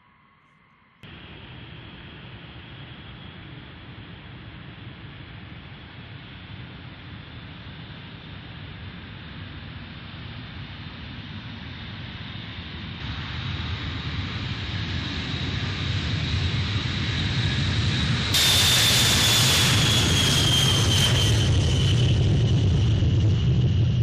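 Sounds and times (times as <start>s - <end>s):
jet aircraft passing: 1.1s - 24.0s.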